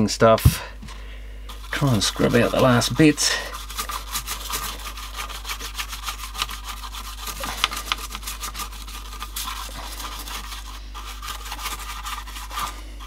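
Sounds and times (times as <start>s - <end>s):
brush scrubbing plastic grille: 1.5s - 13.0s.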